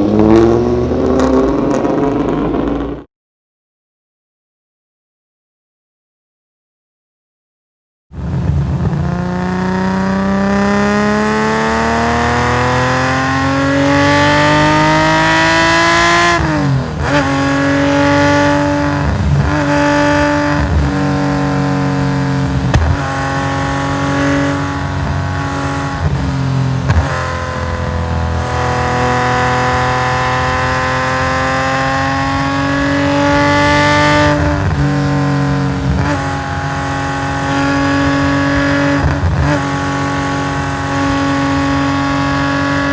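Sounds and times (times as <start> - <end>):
racing car exhaust revving: 0.0 - 3.1, 8.2 - 42.9.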